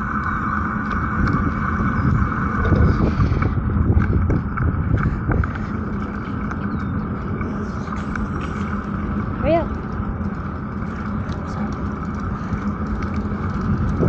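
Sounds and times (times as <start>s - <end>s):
bicycle tyre noise: 0.0s - 14.0s
wind buffeting microphone: 0.0s - 14.0s
small clicks and rattles: 0.2s - 14.0s.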